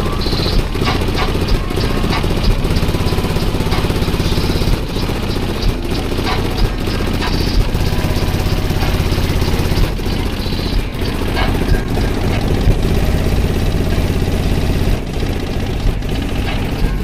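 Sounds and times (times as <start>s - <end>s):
loud deep bass from subwoofers: 0.0s - 17.0s.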